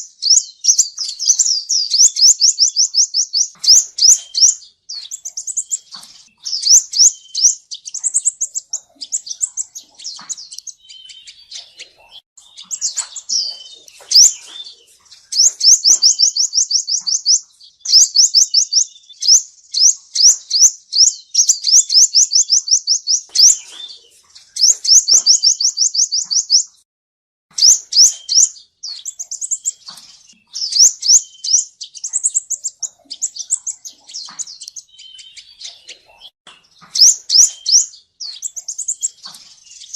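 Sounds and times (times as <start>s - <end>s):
bird singing high trills: 0.0s - 26.8s, 27.5s - 39.9s.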